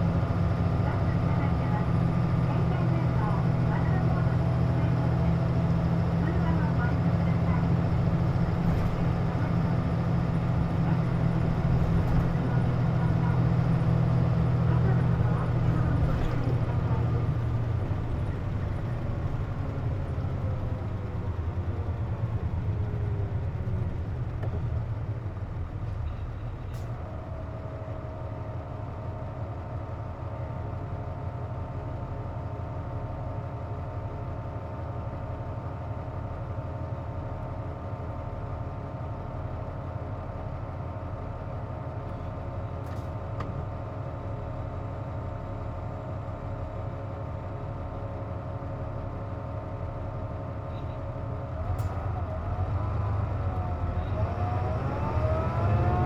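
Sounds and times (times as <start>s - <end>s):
bus engine and road noise: 0.0s - 56.0s
bus engine idle hum: 0.0s - 56.0s.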